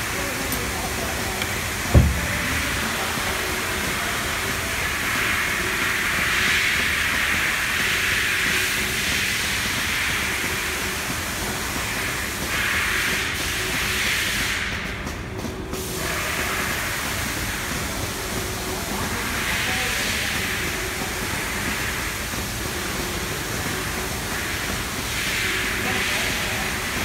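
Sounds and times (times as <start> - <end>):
steady loud hiss: 0.0 - 27.0.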